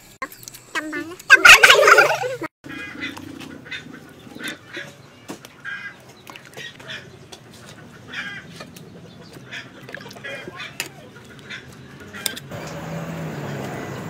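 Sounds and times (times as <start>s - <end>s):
poultry calling: 0.8s - 12.4s.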